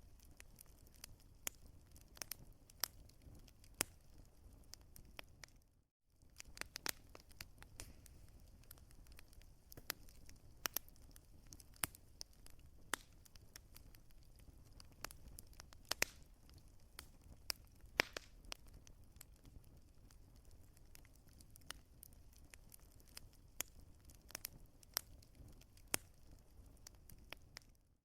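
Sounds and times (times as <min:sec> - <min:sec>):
wood fire crackling and popping: 0:00.0 - 0:05.6, 0:06.2 - 0:27.8.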